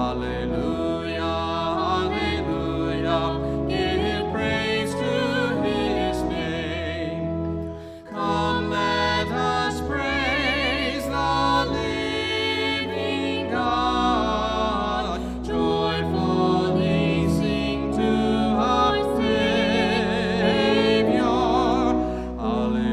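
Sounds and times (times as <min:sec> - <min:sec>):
person singing with vibrato: 0:00.0 - 0:22.9
sustained low accompaniment: 0:00.0 - 0:22.9.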